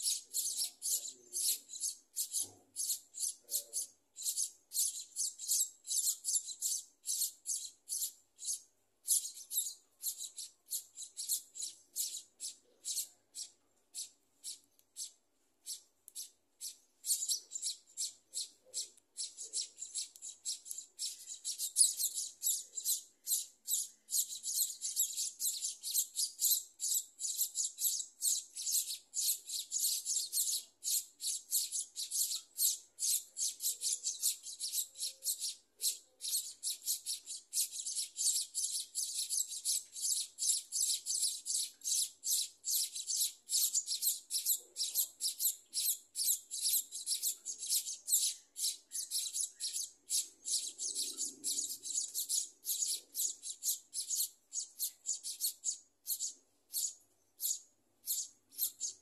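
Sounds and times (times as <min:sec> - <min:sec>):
nestlings chirping rapidly: 0:00.0 - 0:59.0.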